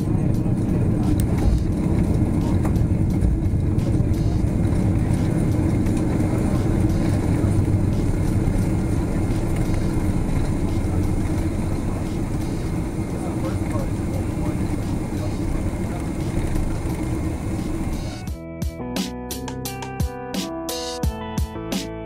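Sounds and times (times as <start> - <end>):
airplane cabin rumble while taxiing: 0.0 - 18.4.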